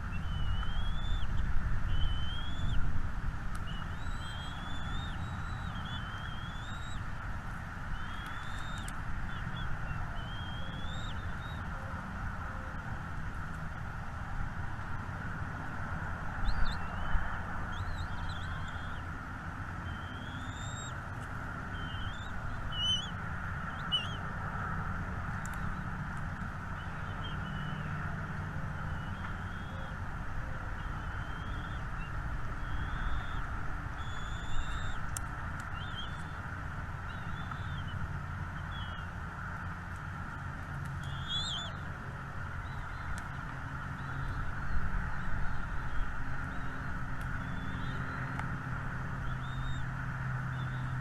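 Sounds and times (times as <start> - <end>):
small birds chirping: 0.0 - 2.8, 3.5 - 7.2, 7.9 - 11.9, 16.4 - 19.1, 19.8 - 48.4, 49.2 - 51.0
steady background noise: 0.0 - 51.0.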